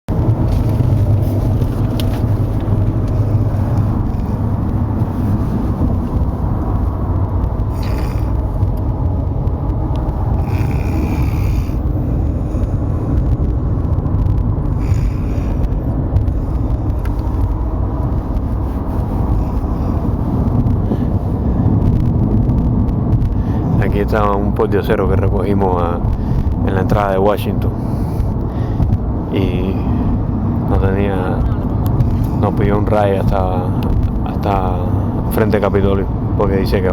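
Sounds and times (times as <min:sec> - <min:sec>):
car cabin road rumble: 0:00.0 - 0:36.9.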